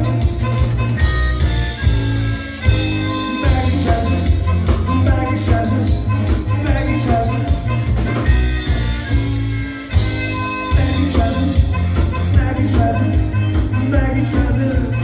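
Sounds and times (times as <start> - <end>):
prominent bassline: 0.0 - 15.0
rock ska band music: 0.0 - 15.0
steady drumbeat: 0.0 - 15.0.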